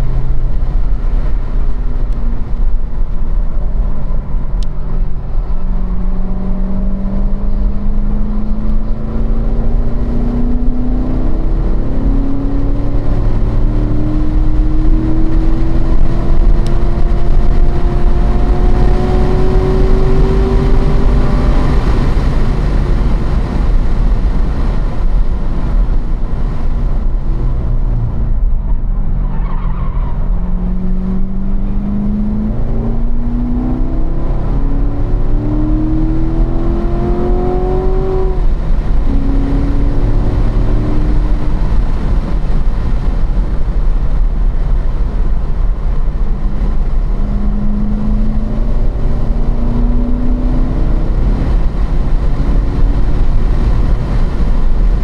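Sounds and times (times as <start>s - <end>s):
car engine accelerating: 0.0s - 55.0s
road and wind rumble: 0.0s - 55.0s.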